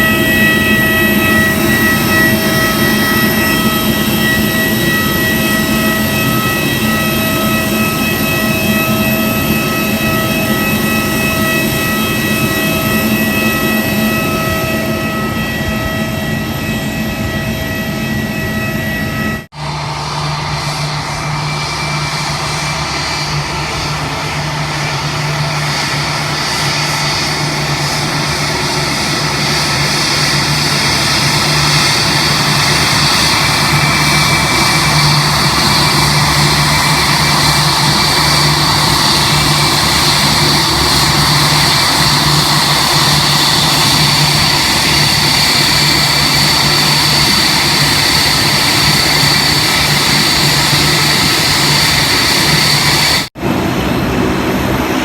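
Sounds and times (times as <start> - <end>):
aircraft engine humming and whining: 0.0 - 55.0.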